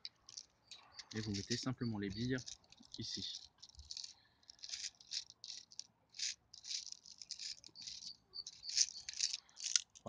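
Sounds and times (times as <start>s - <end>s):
plastic pellets rattling: 0.0s - 10.0s.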